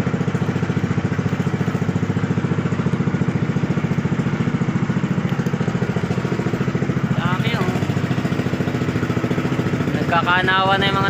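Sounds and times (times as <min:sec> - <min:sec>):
boat engine putter: 0:00.0 - 0:11.0.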